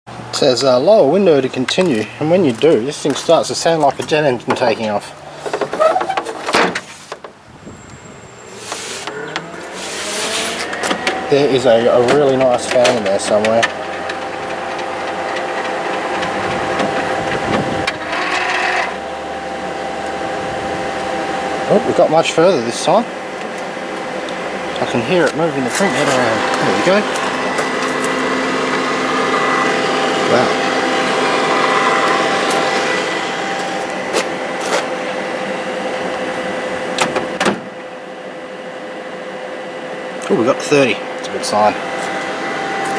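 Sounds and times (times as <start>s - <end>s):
printer fan hum and motor whirring: 7.3s - 42.9s.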